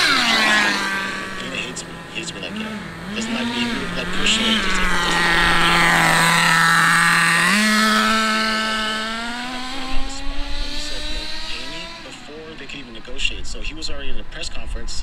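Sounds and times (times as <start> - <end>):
rc car engine at full throttle: 0.0 - 14.9.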